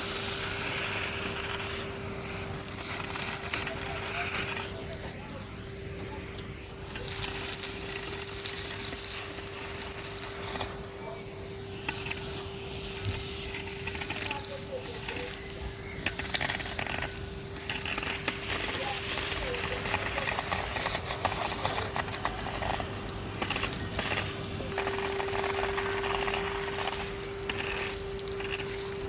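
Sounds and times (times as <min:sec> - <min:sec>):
hose sucking up grit: 0:00.0 - 0:29.0
vacuum cleaner motor whine: 0:00.0 - 0:29.0.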